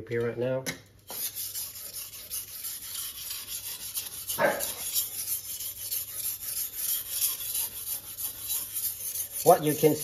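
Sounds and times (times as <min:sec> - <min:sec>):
knife scraping on wet whetstone: 0:01.1 - 0:10.0.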